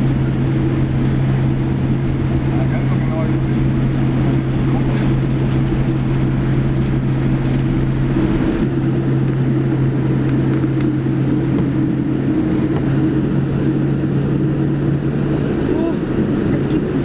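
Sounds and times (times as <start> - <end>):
airliner cabin engine drone: 0.0 - 17.0.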